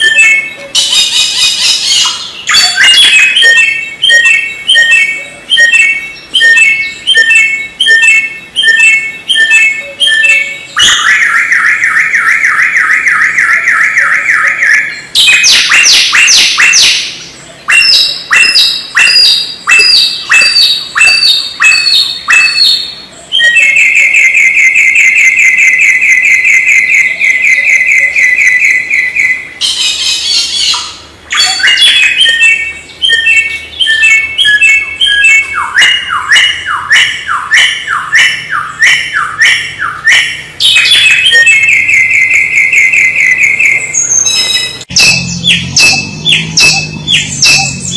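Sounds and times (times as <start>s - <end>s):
songbird singing trills: 0.0s - 47.9s.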